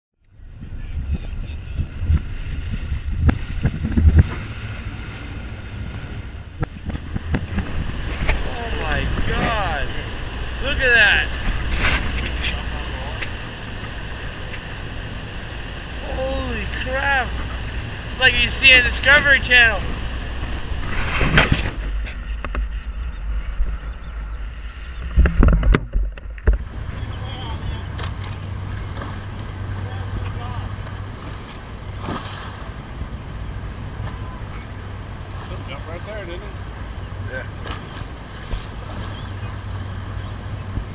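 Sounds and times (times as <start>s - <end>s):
water rushing along a boat hull: 0.2s - 40.9s
wind rumbling on microphone: 0.2s - 40.9s
water slapping against hull: 0.9s - 23.8s, 24.9s - 40.9s.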